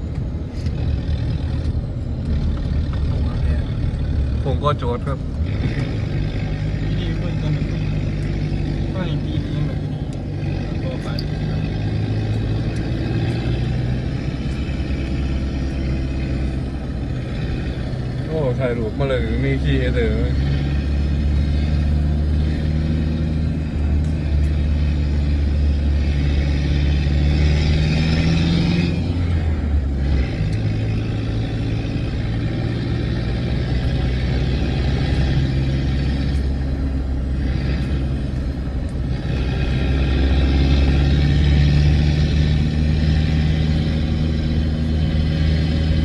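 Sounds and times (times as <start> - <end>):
road and wind noise: 0.0 - 46.0
vehicle engine running: 0.0 - 46.0.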